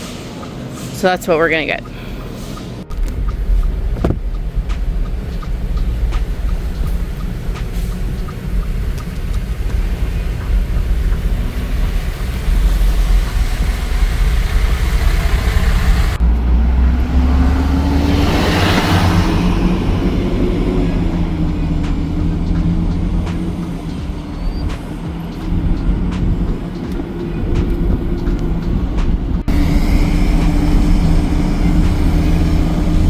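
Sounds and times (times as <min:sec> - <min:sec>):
car engine and tyres rumbling: 0:00.0 - 0:33.0
road hiss: 0:00.0 - 0:33.0.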